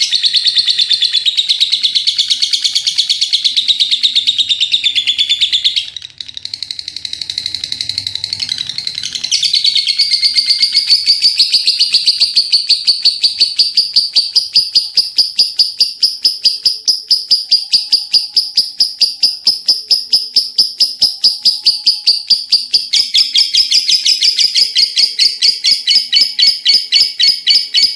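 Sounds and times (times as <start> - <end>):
lovebird chattering: 0.0 - 27.9.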